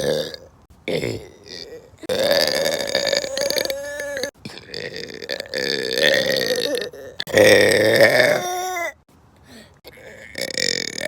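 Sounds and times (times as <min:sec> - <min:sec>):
person burping: 0:00.0 - 0:09.0, 0:09.9 - 0:11.0.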